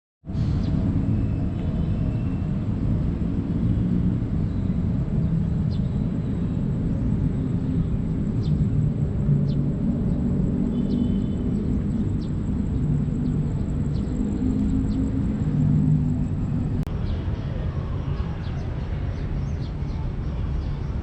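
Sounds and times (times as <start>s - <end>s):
low outdoor rumble: 0.3s - 21.0s.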